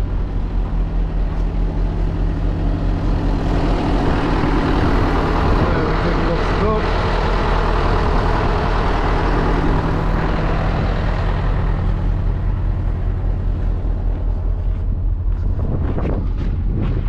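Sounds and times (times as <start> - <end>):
diesel engine idling: 0.0 - 16.6.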